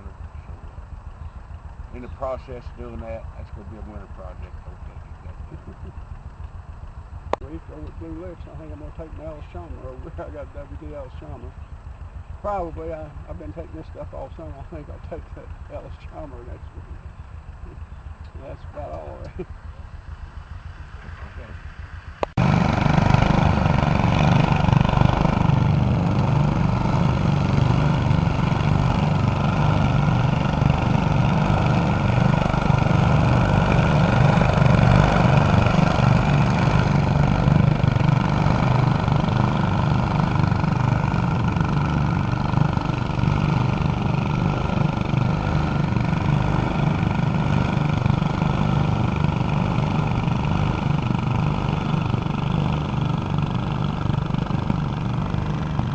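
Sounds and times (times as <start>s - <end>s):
lawn tractor engines running: 0.0s - 55.9s.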